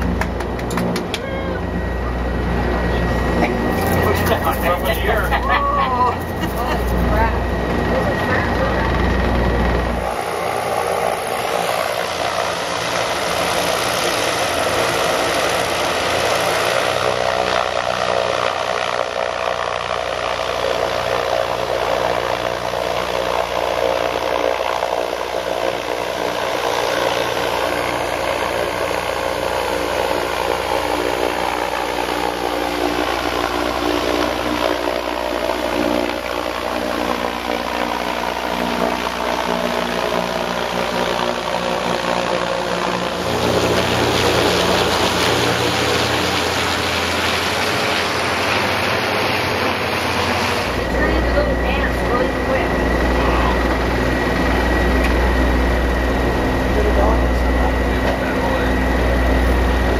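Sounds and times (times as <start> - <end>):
airship propeller engines droning: 0.0 - 59.9.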